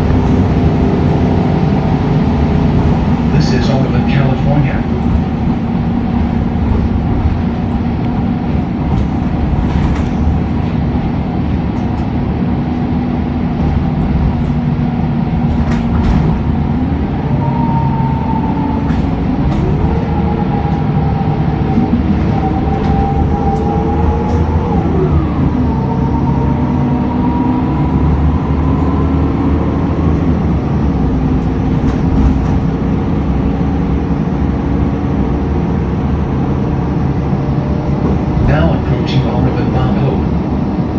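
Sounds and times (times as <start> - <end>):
bus engine with rising whine: 0.0 - 40.9.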